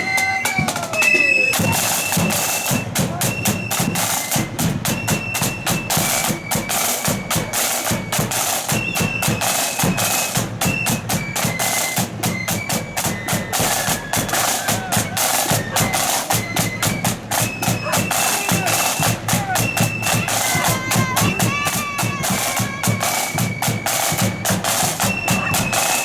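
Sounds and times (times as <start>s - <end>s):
flutes playing march melody: 0.0s - 26.0s
snare and bass drums: 0.0s - 26.0s.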